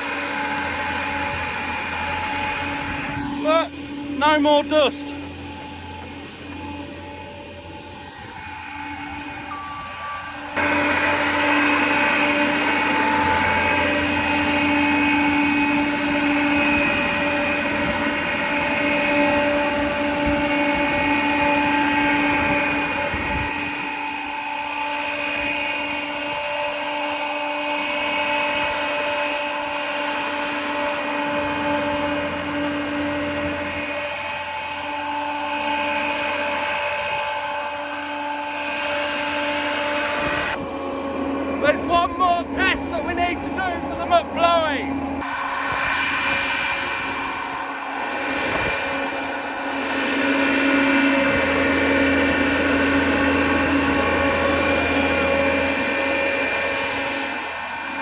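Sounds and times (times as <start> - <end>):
farm blower engine hum and whine: 0.0 - 58.0.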